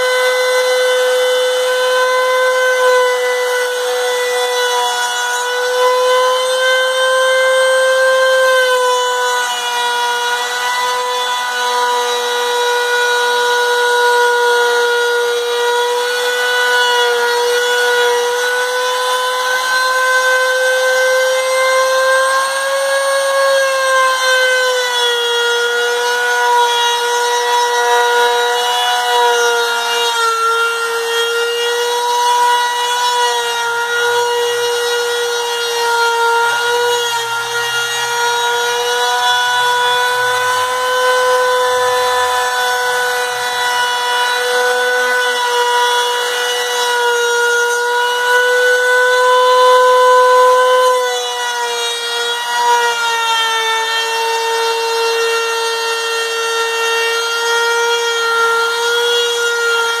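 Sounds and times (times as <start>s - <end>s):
router milling wood: 0.0s - 60.0s.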